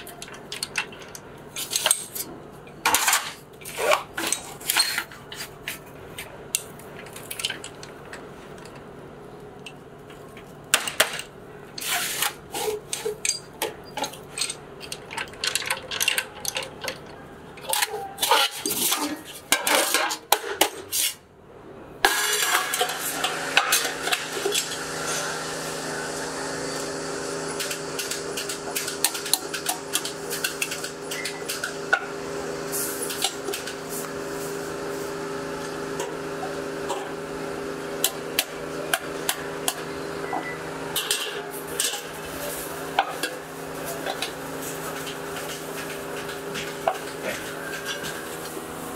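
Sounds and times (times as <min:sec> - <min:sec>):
workshop machinery hum: 0:00.0 - 0:48.9.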